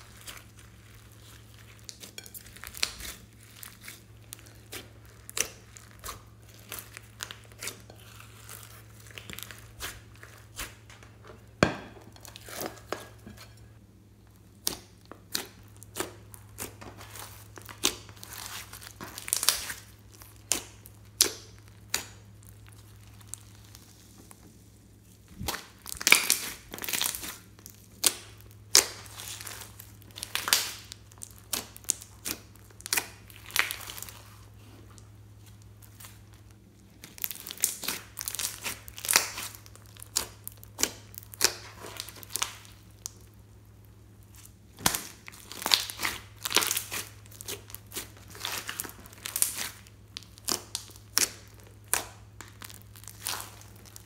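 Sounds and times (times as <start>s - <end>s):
slime crackling and popping: 0.0s - 11.6s, 14.2s - 54.0s.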